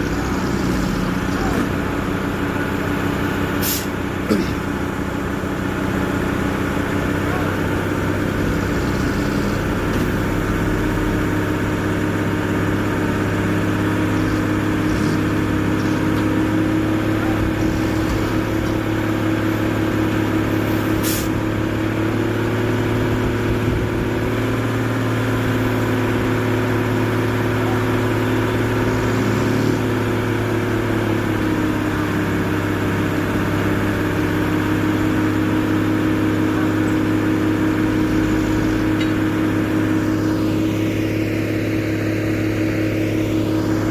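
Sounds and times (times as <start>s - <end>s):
diesel engine running under load: 0.0s - 43.9s.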